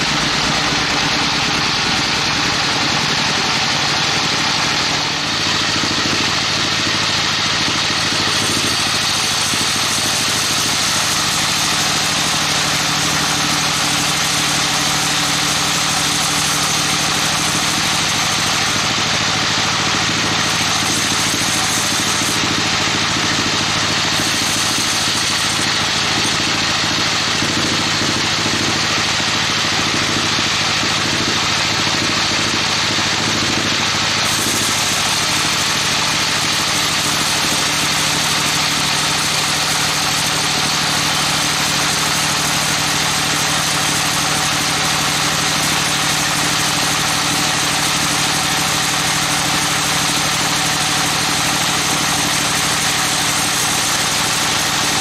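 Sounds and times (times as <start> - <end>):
band saw machine drone: 0.0 - 55.0
hiss of saw cutting log: 0.0 - 55.0.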